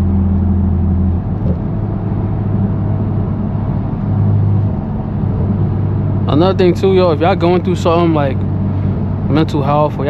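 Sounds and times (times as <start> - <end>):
car engine running at low revs: 0.0 - 10.0.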